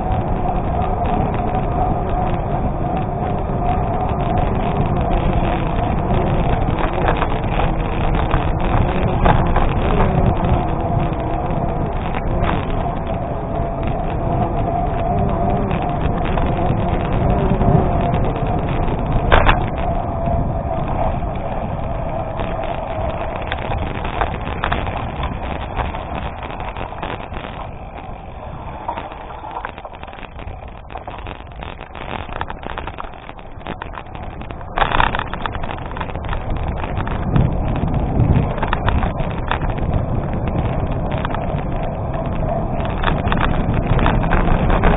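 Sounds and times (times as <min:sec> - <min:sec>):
bike rattling: 0:00.0 - 0:44.9
wind noise on microphone: 0:00.0 - 0:44.9.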